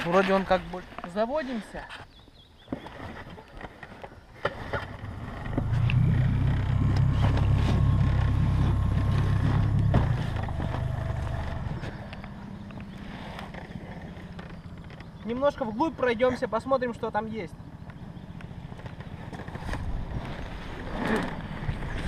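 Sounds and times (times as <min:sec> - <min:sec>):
outboard motor running: 0:03.3 - 0:22.0.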